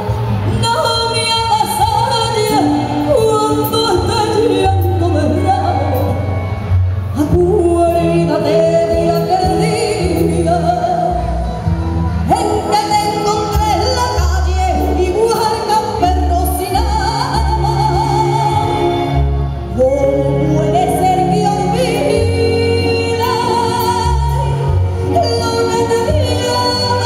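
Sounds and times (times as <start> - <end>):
amplified band playing: 0.0 - 27.0
woman singing with vibrato: 0.0 - 27.0.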